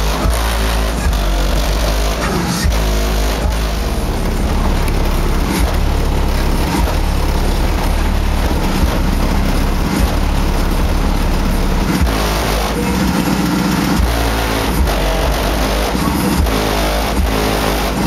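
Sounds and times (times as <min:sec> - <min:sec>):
car body buzzing and rattling: 0:00.0 - 0:18.0
deep bass from car subwoofers: 0:00.0 - 0:18.0.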